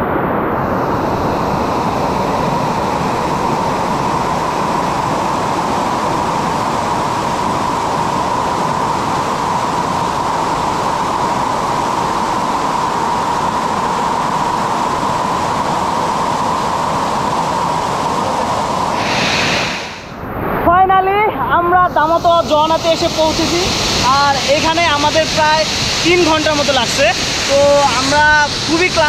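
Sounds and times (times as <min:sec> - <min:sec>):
waterfall rushing: 0:01.1 - 0:20.1, 0:21.6 - 0:29.0.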